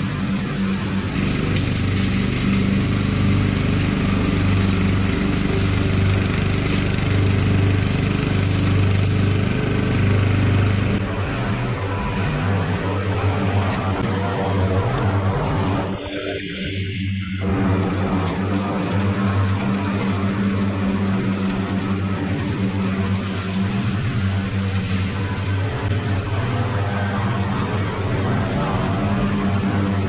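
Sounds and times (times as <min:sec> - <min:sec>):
riding lawn mower engine: 0:00.0 - 0:30.0.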